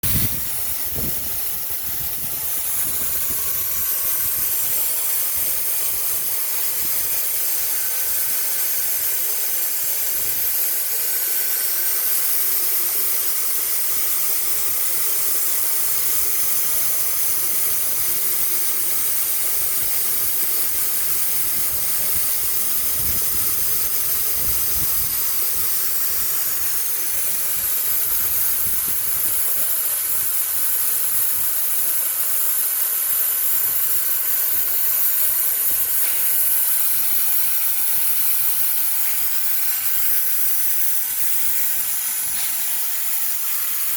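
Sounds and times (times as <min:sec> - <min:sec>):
faint steady whine: 0:00.0 - 0:43.9
hot-air welder hissing: 0:00.0 - 0:43.9.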